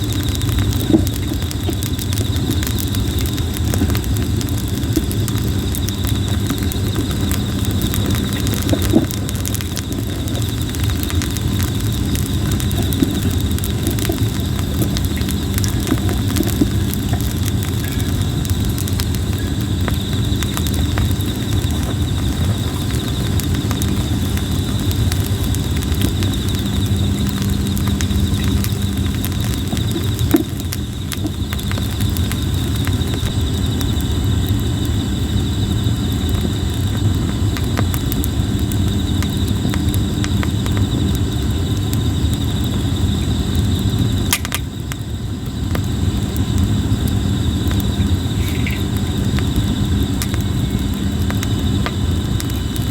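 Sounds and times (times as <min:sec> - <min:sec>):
campfire crackling and popping: 0:00.0 - 0:52.9
insects trilling: 0:00.0 - 0:52.9
low steady rumble: 0:00.0 - 0:52.9.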